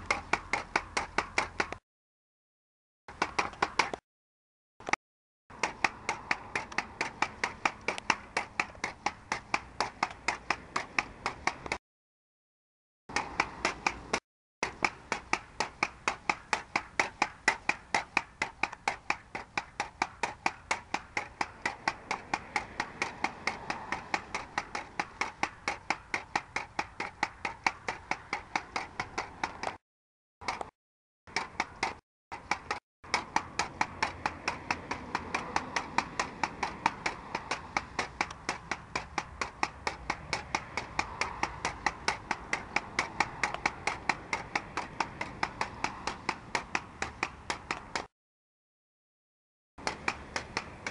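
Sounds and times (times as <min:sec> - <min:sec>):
pogo stick bouncing on asphalt: 0:00.0 - 0:01.8, 0:03.1 - 0:04.0, 0:04.8 - 0:11.8, 0:13.1 - 0:29.8, 0:30.4 - 0:48.1, 0:49.8 - 0:50.9.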